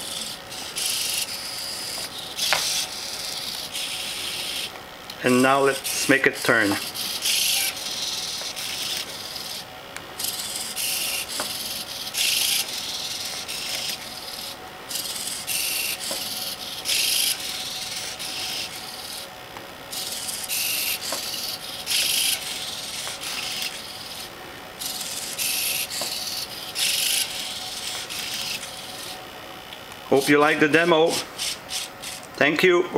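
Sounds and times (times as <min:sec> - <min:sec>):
servo motors whirring: 0:00.0 - 0:04.7, 0:05.3 - 0:19.3, 0:19.9 - 0:29.2, 0:30.2 - 0:32.3.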